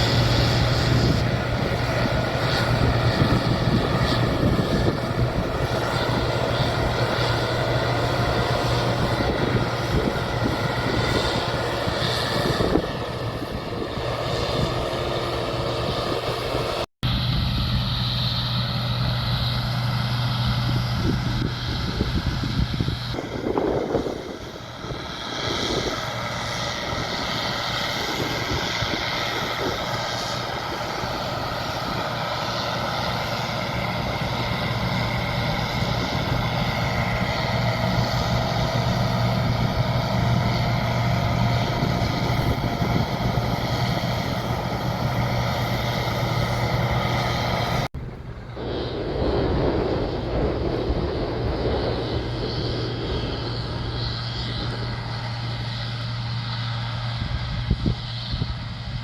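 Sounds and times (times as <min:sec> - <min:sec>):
combine harvester engine drone: 0:00.0 - 0:59.0
steady whining tones: 0:00.0 - 0:59.0.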